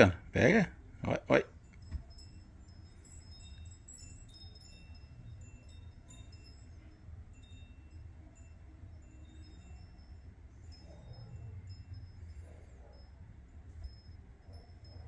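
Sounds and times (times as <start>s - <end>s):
low steady hum: 0.0s - 15.0s
small metal chimes tinkling: 0.0s - 15.0s.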